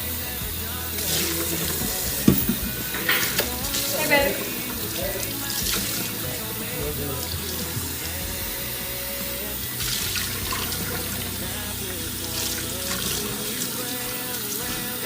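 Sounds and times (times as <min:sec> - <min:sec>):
background music: 0:00.0 - 0:15.0
water running from a tap: 0:00.1 - 0:15.0.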